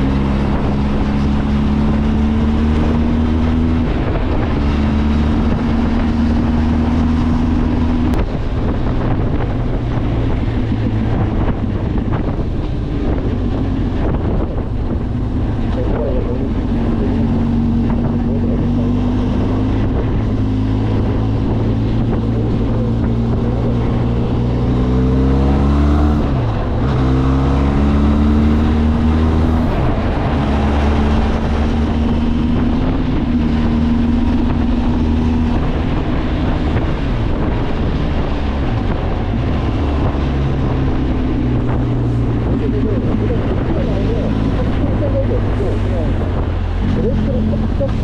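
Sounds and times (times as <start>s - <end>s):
motorcycle engine revving: 0.0s - 48.0s
wind noise: 0.0s - 48.0s.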